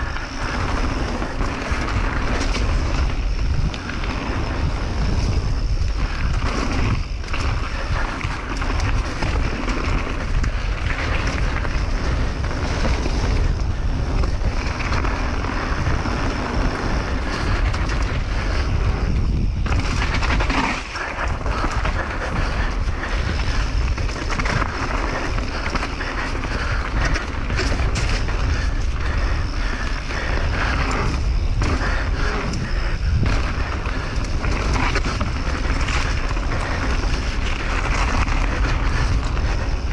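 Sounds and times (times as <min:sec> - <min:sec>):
bike tyres clattering over trail: 0:00.0 - 0:39.9
wind noise on microphone: 0:00.0 - 0:39.9.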